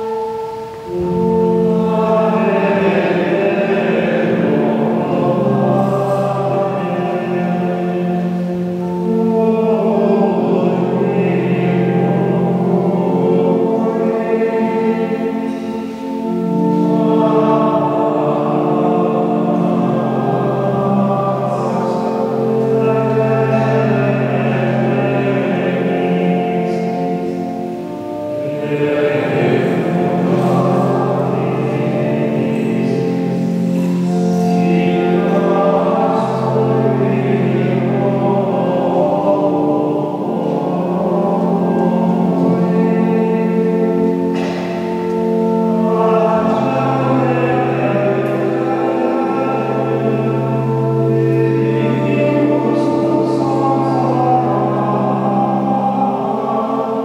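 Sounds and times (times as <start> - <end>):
male choir chanting: 0.0 - 57.0.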